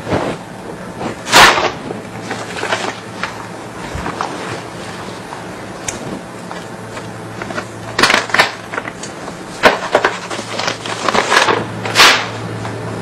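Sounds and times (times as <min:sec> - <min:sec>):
objects clacking and rustling: 0:00.0 - 0:05.0, 0:06.0 - 0:12.4
steady low hum: 0:00.0 - 0:13.0.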